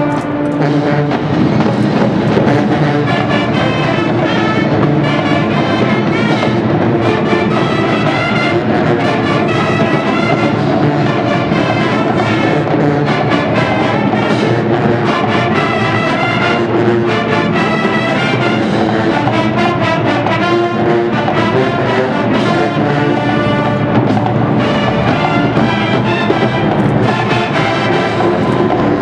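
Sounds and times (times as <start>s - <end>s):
drumline steady beat: 0.0s - 29.0s
marching band brass: 0.0s - 29.0s.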